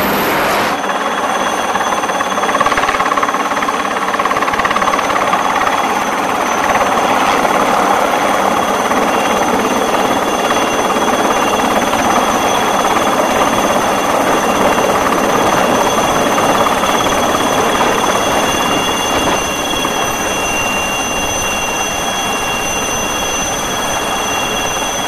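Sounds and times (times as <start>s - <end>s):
helicopter rotor beat: 0.0s - 25.0s
high turbine whine: 0.0s - 25.0s.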